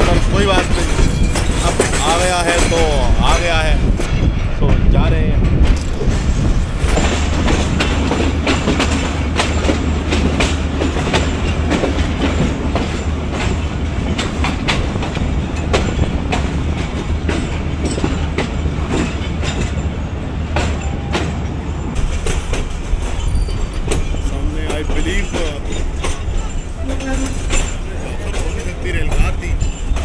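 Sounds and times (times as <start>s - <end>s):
low train rumble: 0.0s - 30.0s
train wheels clattering over rail joints: 0.0s - 30.0s.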